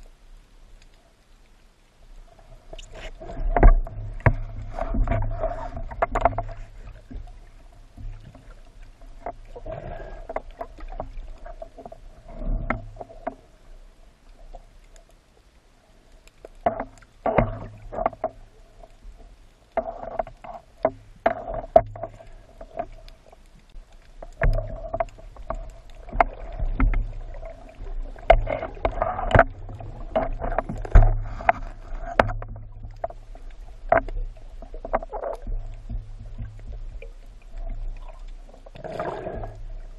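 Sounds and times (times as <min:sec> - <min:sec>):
underwater hum: 0:00.0 - 0:39.9
underwater clicks and knocks: 0:02.7 - 0:13.5, 0:16.2 - 0:39.9.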